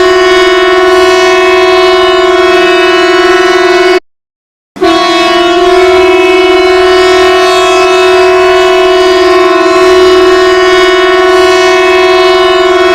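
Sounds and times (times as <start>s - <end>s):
emergency alert alarm tone: 0.0s - 4.0s, 4.8s - 12.9s.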